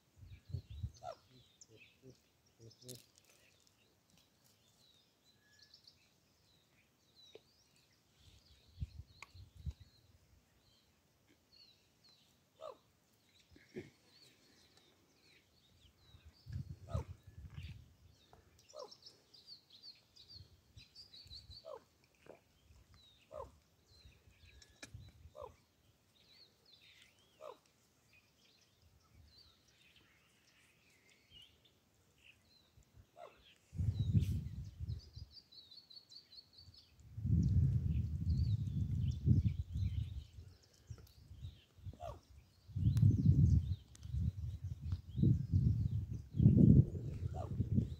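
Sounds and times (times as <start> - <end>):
small birds chirping: 0.1 - 47.9.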